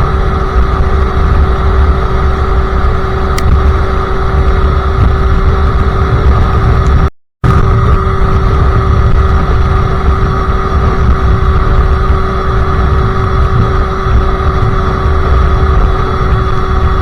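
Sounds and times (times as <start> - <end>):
heavy low rumble: 0.0 - 17.0
two-stroke motorcycle engine running: 0.0 - 17.0.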